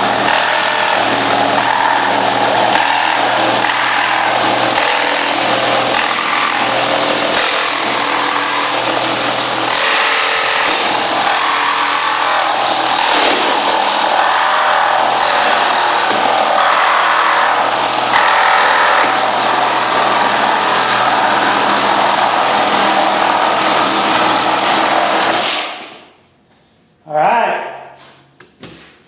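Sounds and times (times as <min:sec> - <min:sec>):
reciprocating saw cutting wood: 0:00.0 - 0:26.0.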